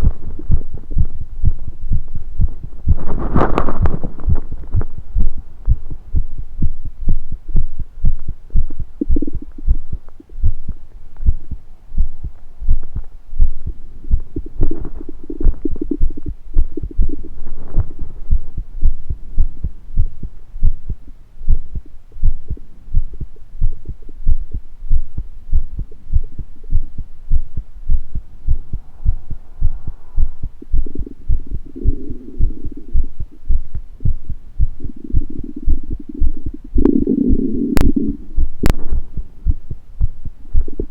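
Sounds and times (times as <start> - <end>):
stomach rumbling gurgles: 0.0 - 6.8, 8.1 - 24.5, 25.1 - 40.9
heartbeat thumping: 0.0 - 40.9.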